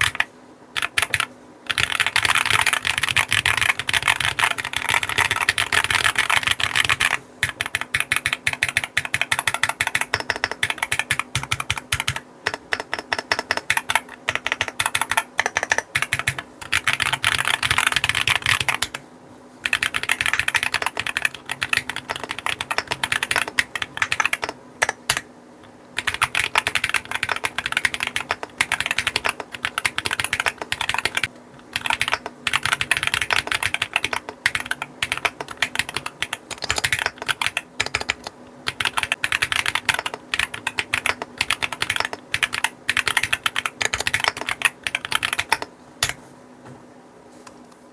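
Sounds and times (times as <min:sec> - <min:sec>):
typing on mechanical keyboard: 0:00.0 - 0:19.0, 0:19.6 - 0:25.2, 0:26.0 - 0:46.2.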